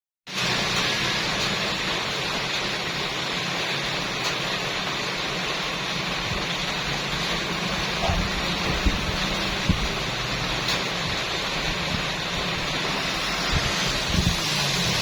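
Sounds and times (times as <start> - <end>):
rain falling: 0.3 - 15.0.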